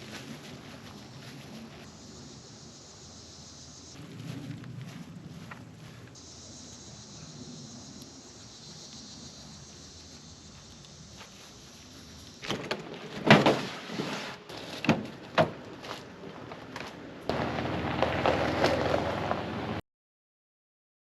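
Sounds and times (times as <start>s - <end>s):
outdoor background: 0.0s - 19.8s.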